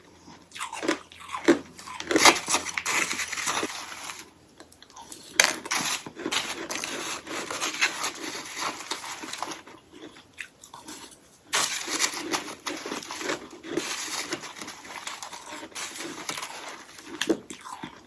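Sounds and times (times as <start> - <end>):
crunching and chewing ice: 0.1 - 18.0.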